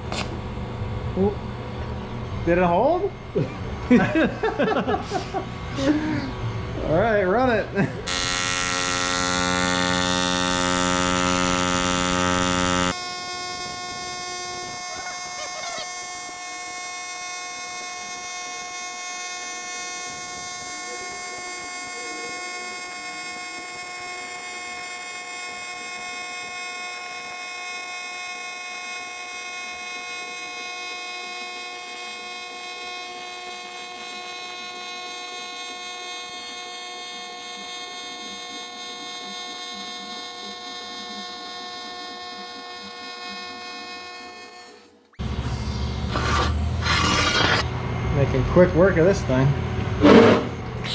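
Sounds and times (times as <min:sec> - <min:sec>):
welding arc buzzing: 0:00.0 - 0:48.2, 0:49.8 - 0:50.9.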